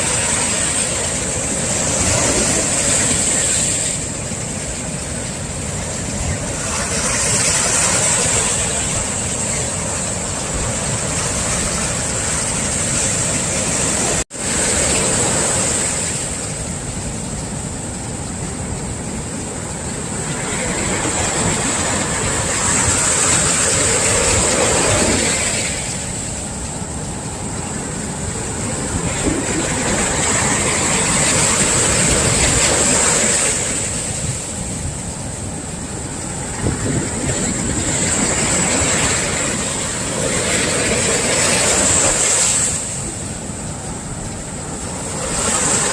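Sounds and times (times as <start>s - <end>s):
waves breaking on shore: 0.0s - 45.9s.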